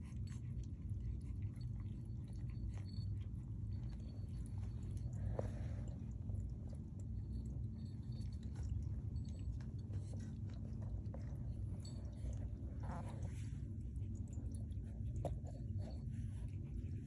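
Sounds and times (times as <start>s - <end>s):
kitten crunching dry kibble: 0.0s - 17.0s
steady low hum: 0.0s - 17.0s.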